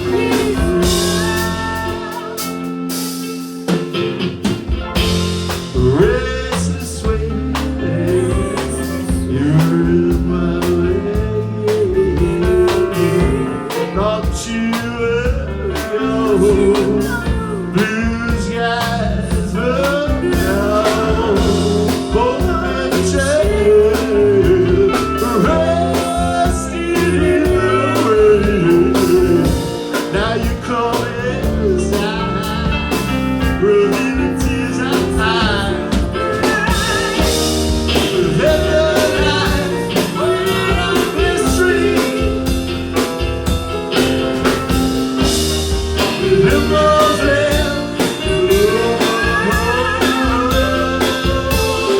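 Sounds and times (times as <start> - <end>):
blues-rock band playing: 0.0 - 51.9
melodic guitar lead line: 0.0 - 51.9.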